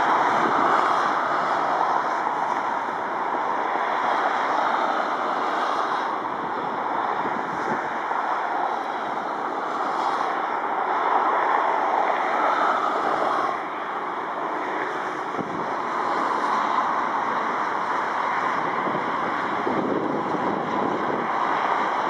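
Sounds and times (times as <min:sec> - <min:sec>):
jet engine roar: 0:00.0 - 0:22.0
wind on microphone: 0:00.0 - 0:22.0.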